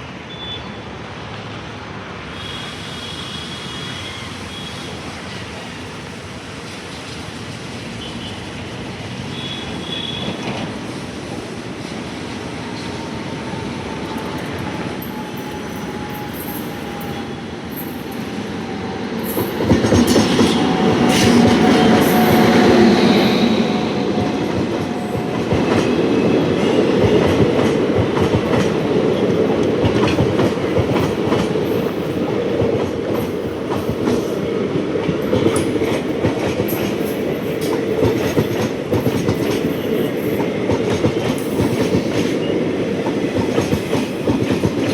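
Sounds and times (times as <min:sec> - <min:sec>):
train passing: 0:00.0 - 0:44.9.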